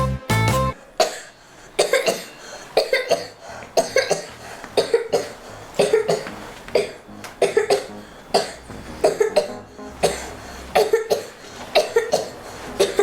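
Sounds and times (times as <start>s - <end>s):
person coughing: 1.0s - 13.0s.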